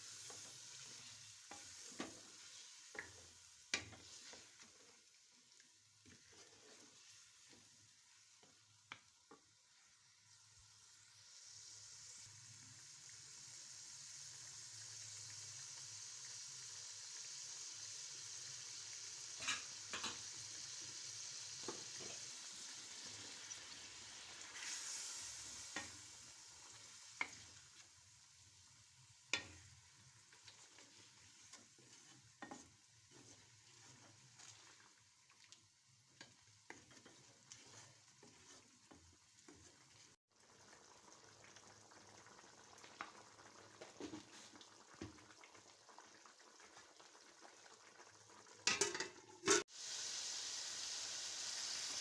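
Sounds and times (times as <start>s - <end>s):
chicken sizzling in a pan: 0.0s - 52.0s.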